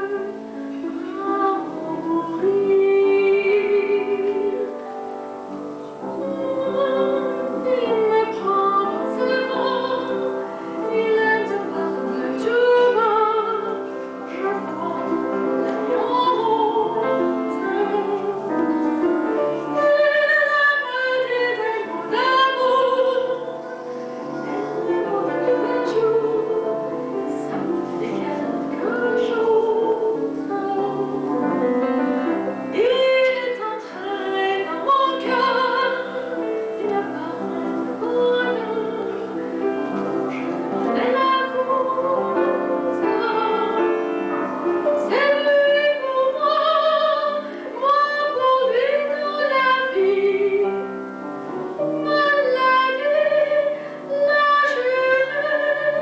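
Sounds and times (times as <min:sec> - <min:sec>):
woman singing operatically: 0:00.0 - 0:04.8, 0:06.0 - 0:23.7, 0:24.4 - 0:50.8, 0:51.8 - 0:56.0
piano: 0:00.0 - 0:56.0.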